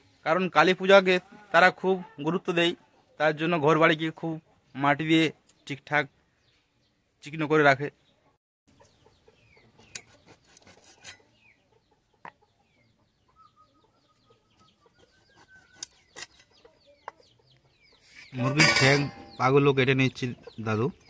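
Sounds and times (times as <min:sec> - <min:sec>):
chickens clucking faintly: 0:00.0 - 0:06.8, 0:08.0 - 0:21.0.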